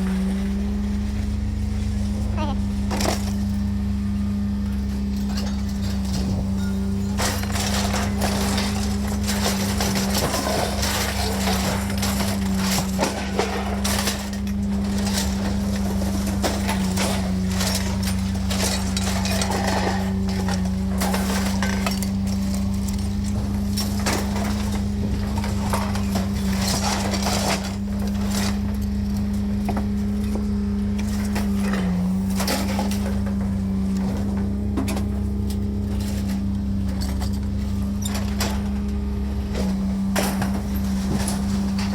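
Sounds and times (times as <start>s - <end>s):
steady motor hum: 0.0s - 41.9s
scrap metal clanking: 5.0s - 41.9s.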